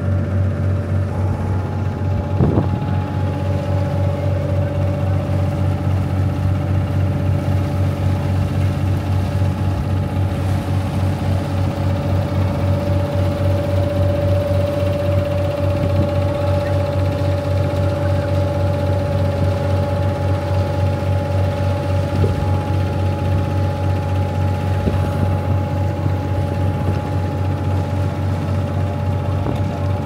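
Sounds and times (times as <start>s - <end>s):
boat engine deep hum: 0.0s - 30.0s
high engine whine: 0.0s - 30.0s.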